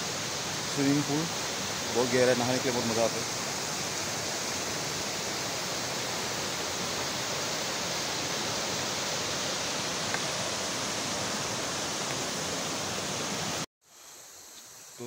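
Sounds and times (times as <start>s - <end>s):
stream rushing over rocks: 0.0s - 13.7s.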